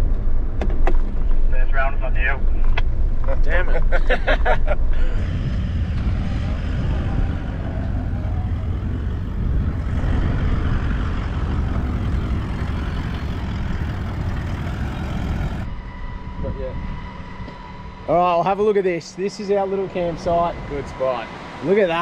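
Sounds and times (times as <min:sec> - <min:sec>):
vehicle engine and tyres rumbling: 0:00.0 - 0:22.0.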